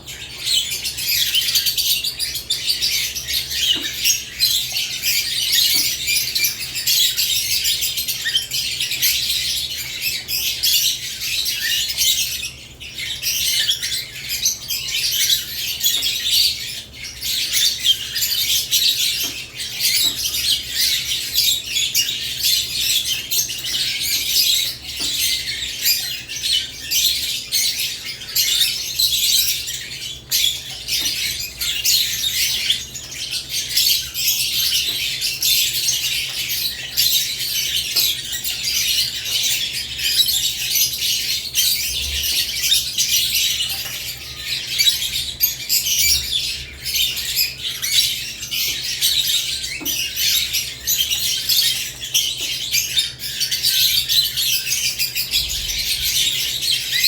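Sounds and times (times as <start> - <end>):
lovebirds chirping and chattering: 0.0 - 57.0.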